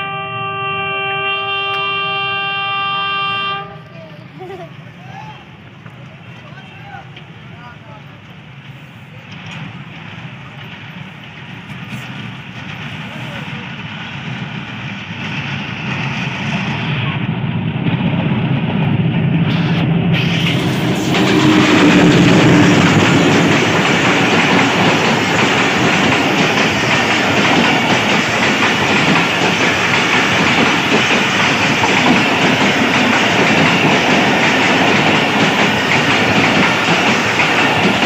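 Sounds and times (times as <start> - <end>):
diesel locomotive engine passing: 0.0 - 38.0
train wheels clattering over rails: 6.9 - 38.0.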